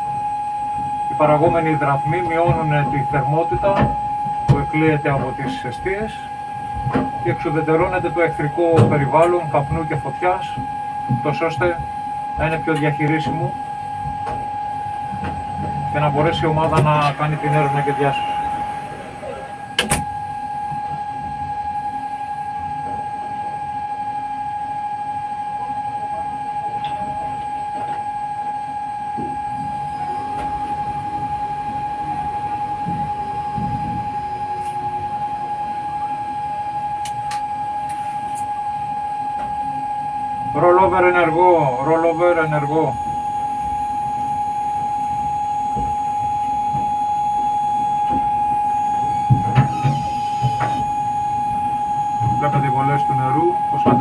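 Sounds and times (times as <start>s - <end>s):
electronic alarm tone: 0.0s - 54.0s.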